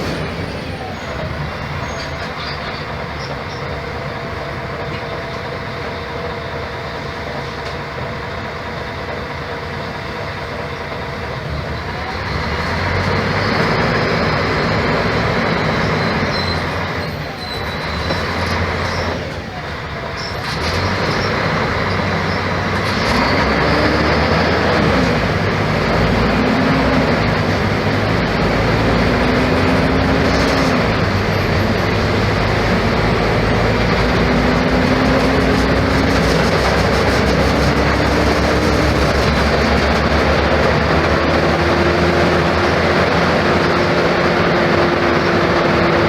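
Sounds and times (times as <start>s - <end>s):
bus engine rumble: 0.0s - 46.0s.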